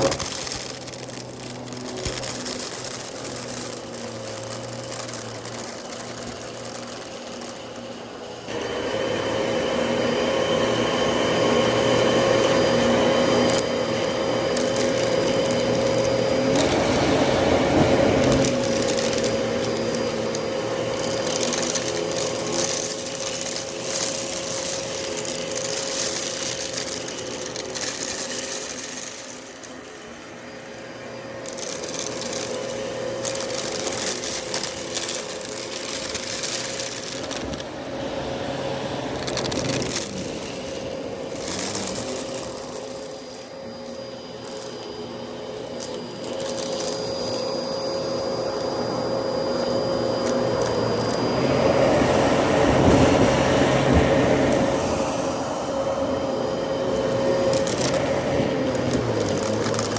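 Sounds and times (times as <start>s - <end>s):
debris crackling and rattling: 0.0s - 8.4s, 12.6s - 51.4s, 57.0s - 59.9s
vacuum cleaner whining: 0.0s - 59.9s.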